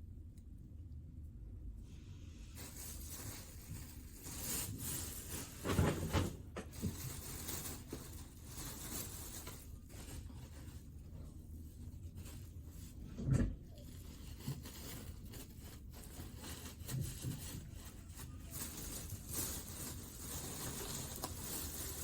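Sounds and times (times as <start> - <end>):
food packaging rustling and scraping: 2.0 - 22.0.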